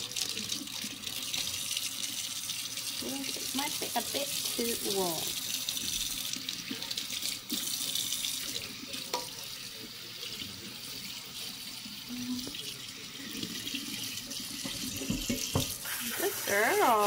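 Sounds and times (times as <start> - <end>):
faucet running into sink: 0.0 - 17.0.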